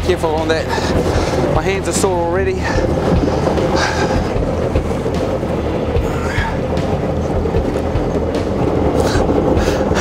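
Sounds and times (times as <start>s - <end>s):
boat engine idling: 0.0s - 10.0s
wind and sea rushing: 0.0s - 10.0s.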